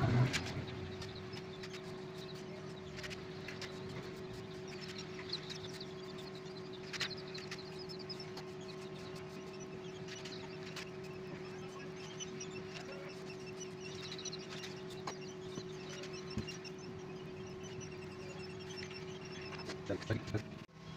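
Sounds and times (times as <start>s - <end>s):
chicks peeping: 0.0s - 20.6s
steady electrical hum: 0.0s - 20.9s.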